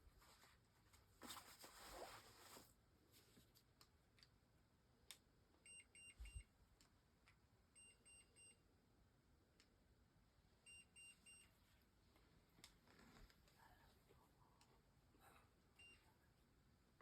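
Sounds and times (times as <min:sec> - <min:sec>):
faint room hiss: 0:00.0 - 0:17.0.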